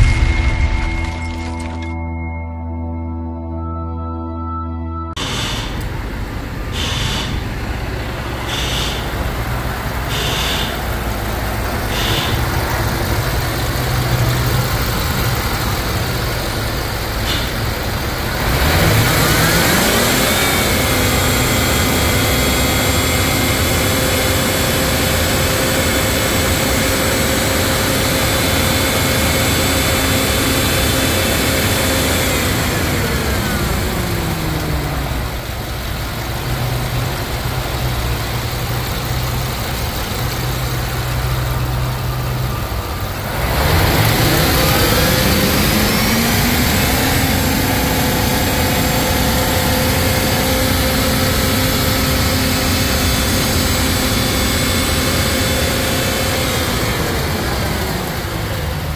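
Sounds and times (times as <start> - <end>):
car engine idling and revving: 0.0 - 1.9, 5.2 - 58.9.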